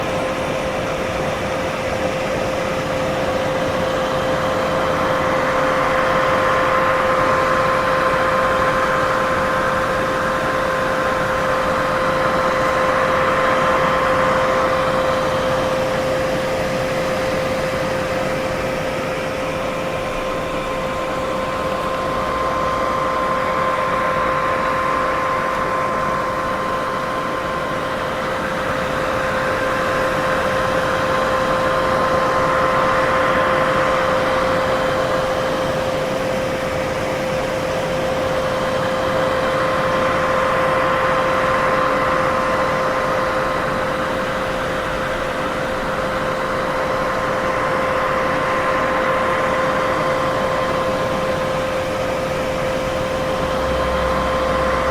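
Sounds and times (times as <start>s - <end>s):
faint steady hums: 0.0s - 54.9s
steady white noise hiss: 0.0s - 54.9s.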